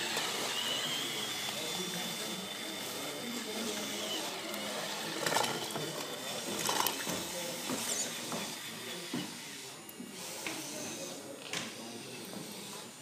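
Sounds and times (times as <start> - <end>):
small motor whirring: 0.0 - 13.0.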